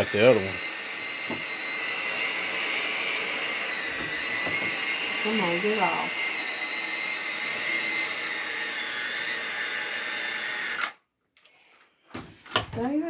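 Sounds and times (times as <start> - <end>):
electric hand mixer whining: 0.0 - 11.0.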